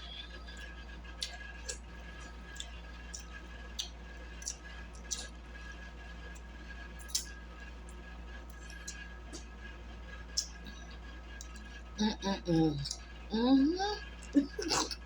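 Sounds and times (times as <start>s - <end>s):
crispy crackles of chewing: 0.0s - 15.0s
steady low hum: 0.0s - 15.0s.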